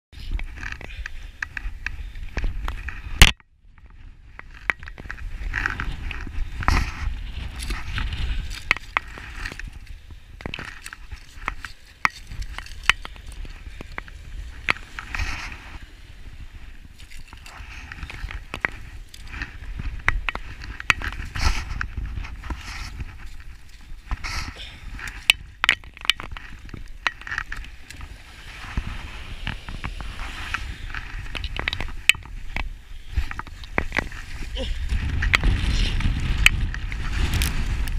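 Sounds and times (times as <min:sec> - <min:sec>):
wind on microphone: 0:00.1 - 0:37.9.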